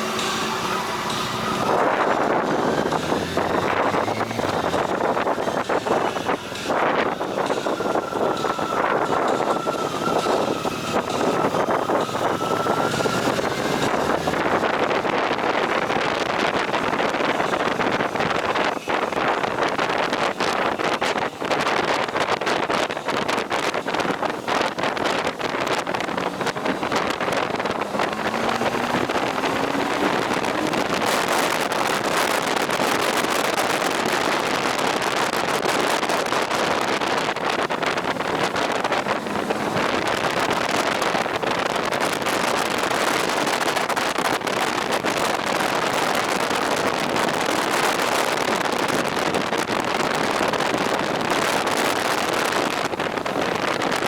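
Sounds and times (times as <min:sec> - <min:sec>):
motorcycle engine: 0:00.0 - 0:20.8, 0:24.2 - 0:54.0
wind on microphone: 0:00.0 - 0:54.0.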